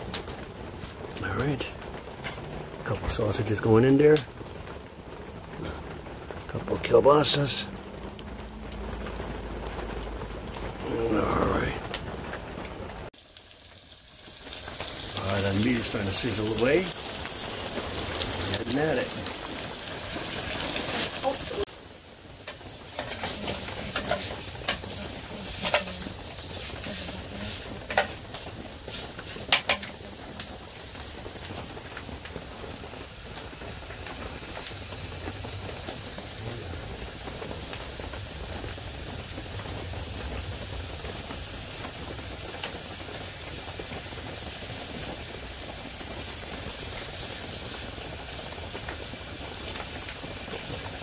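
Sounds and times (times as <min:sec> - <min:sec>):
meat sizzling in metal pot: 0:00.0 - 0:10.3, 0:13.1 - 0:51.0.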